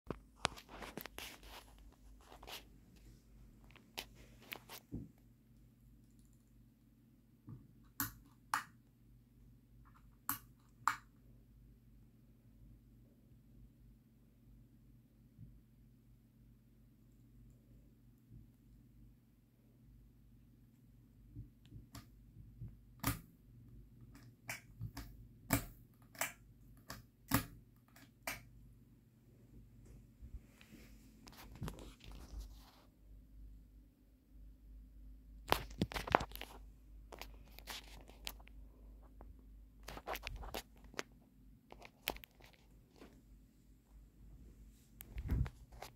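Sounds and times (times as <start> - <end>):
low steady hum: 0.1 - 45.9.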